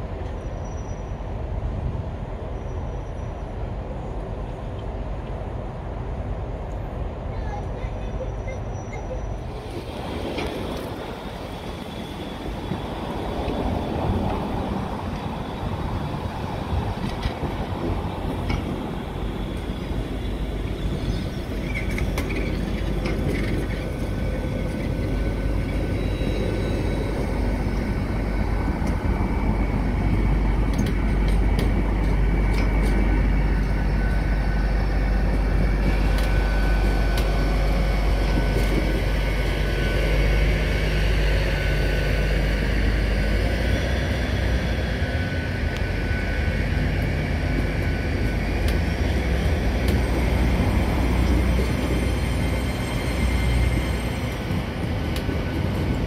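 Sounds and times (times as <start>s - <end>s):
train passing with low rumble: 0.0s - 56.0s.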